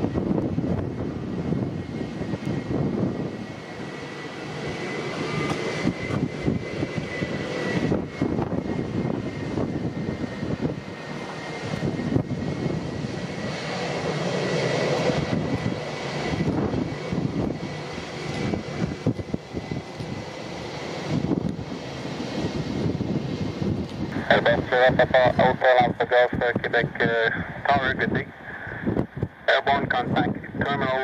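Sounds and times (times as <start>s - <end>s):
wind buffeting microphone: 0.0s - 4.0s, 4.6s - 13.7s, 15.0s - 31.0s
jet engines whining: 0.0s - 31.0s.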